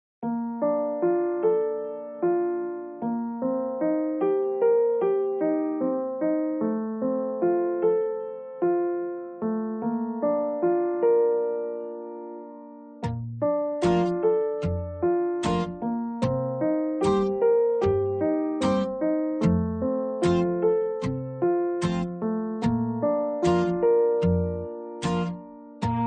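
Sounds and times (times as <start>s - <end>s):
slow gentle piano melody: 0.2s - 26.0s.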